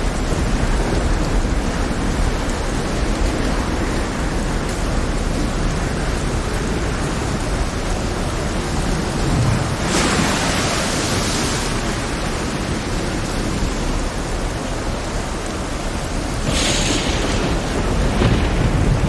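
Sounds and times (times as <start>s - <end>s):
heavy rain over rough sea: 0.0s - 19.0s.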